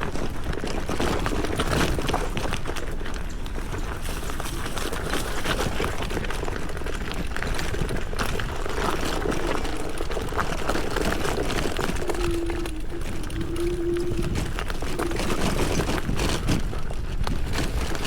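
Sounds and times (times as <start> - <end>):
gravel clicks and crackles: 0.0 - 18.0
tyres rumbling on gravel: 0.0 - 18.0
wind noise on microphone: 0.0 - 18.0.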